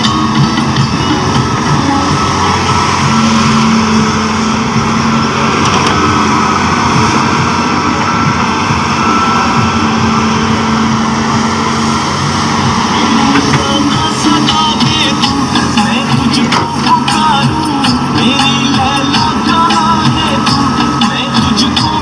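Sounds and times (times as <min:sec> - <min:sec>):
heavy machine engine running: 0:00.0 - 0:22.0.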